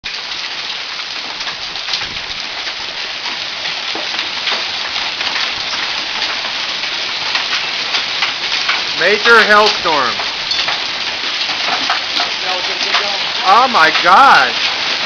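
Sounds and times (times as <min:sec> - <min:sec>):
hailstones pelting down: 0:00.0 - 0:15.0.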